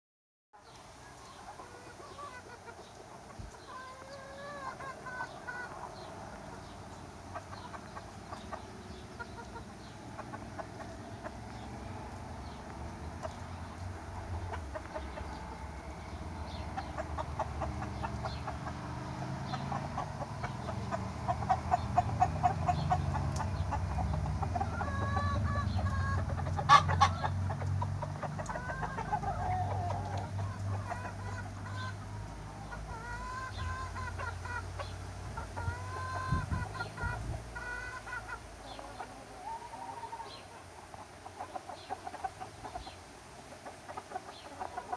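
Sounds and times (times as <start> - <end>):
chickens clucking: 0.6 - 44.9
hens and roosters calling: 0.6 - 44.9.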